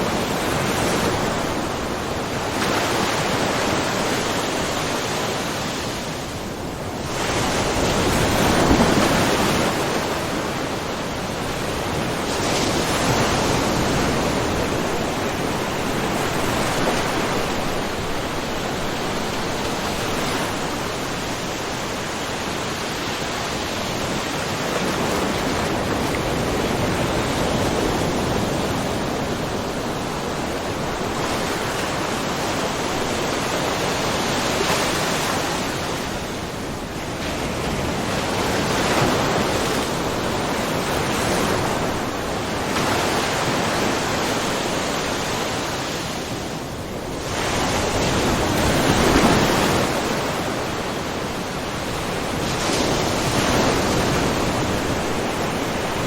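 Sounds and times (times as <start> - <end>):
small waves splashing: 0.0 - 56.0.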